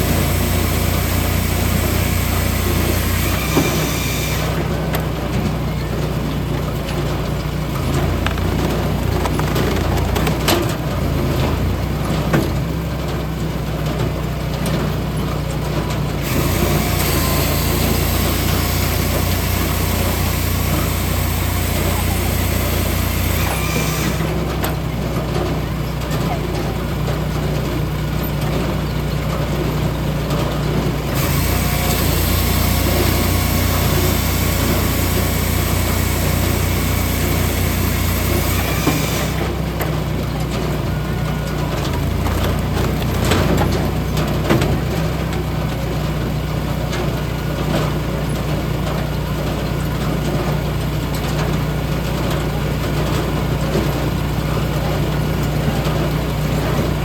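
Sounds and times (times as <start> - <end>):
log splitter engine running: 0.0 - 57.0.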